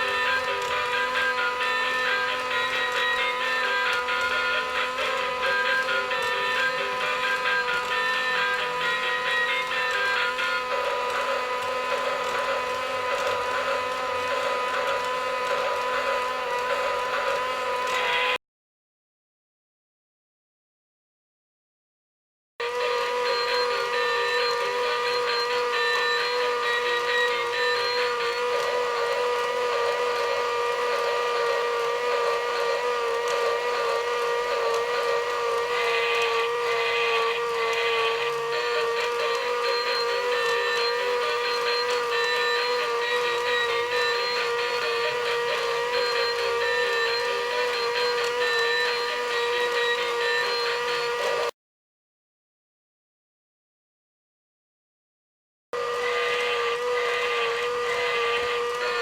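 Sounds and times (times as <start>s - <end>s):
toy train motor whining: 0.0s - 18.4s, 22.6s - 51.5s, 55.8s - 59.0s.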